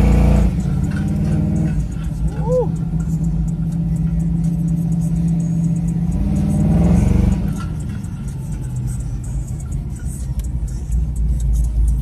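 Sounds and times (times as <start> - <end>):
vehicle engine running and revving: 0.0 - 12.0.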